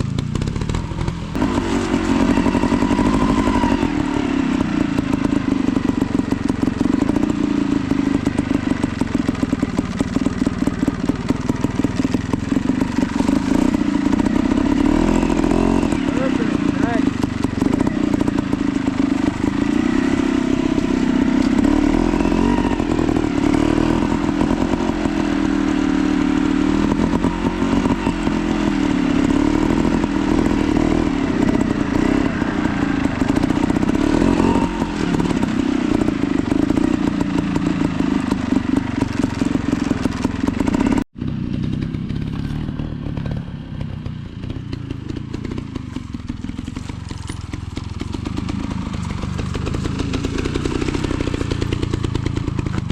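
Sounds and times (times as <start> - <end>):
two-stroke motorbike engine: 0.0 - 52.9.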